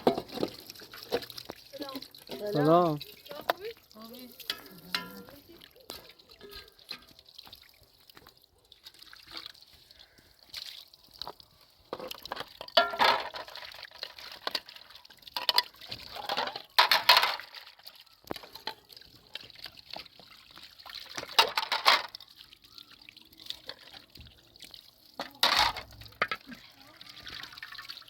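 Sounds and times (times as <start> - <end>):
water pouring and splashing: 0.0 - 28.0.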